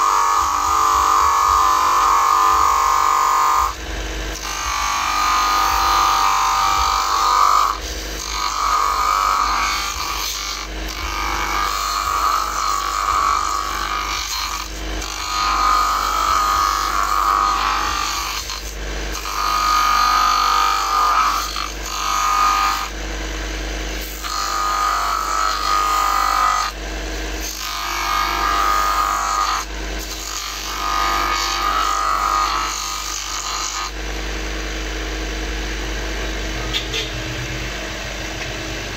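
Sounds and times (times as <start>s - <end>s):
grinding stone motor running: 0.0s - 38.9s.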